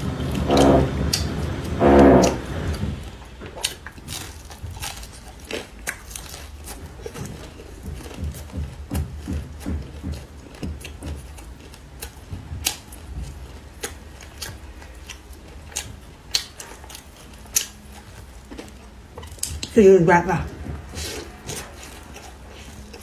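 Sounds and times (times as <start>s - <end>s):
chewing crispy food: 3.0s - 19.9s, 20.5s - 23.0s.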